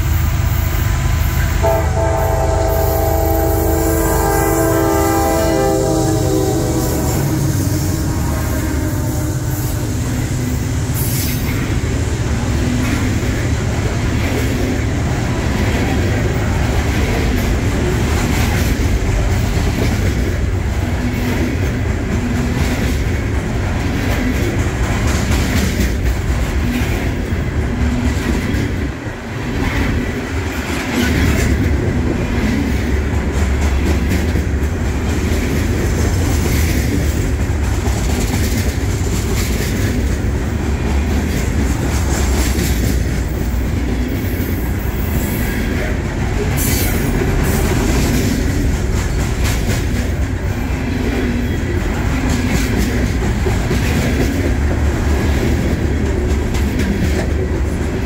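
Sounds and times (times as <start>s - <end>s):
freight train wheels rumbling: 0.0s - 58.0s
wheels clacking on rails: 0.0s - 58.0s.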